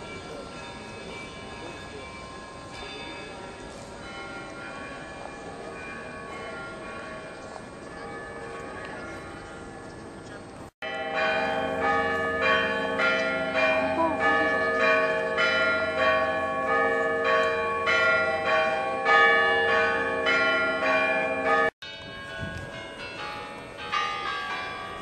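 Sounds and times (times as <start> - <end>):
church bells ringing: 0.0 - 25.0
quieter bells ringing: 0.0 - 25.0.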